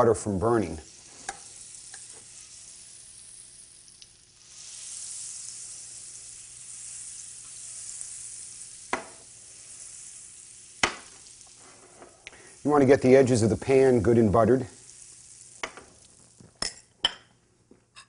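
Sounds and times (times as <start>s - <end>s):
butter sizzling in oil: 0.0s - 17.1s.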